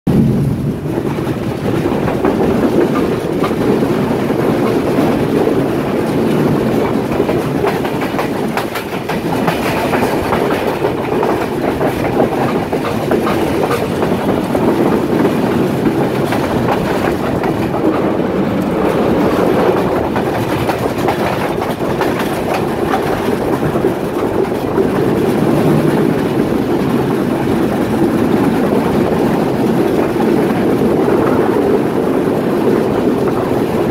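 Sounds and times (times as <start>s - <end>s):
train wheels rumbling on rail: 0.1s - 33.9s.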